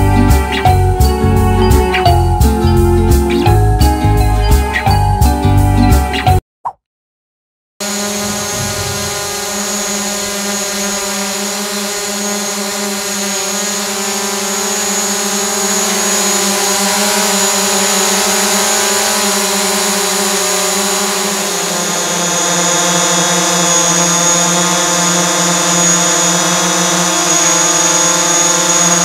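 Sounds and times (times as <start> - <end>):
drone hovering buzzing whine: 0.0 - 4.7, 7.8 - 29.0.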